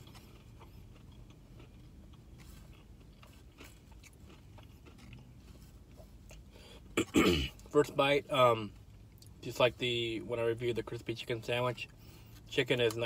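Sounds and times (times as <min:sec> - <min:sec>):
chewing crispy food: 0:00.0 - 0:10.9.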